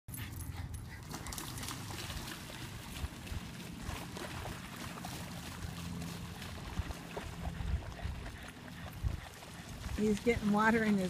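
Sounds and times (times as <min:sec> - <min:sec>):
dogs splashing in water: 0:00.4 - 0:11.0.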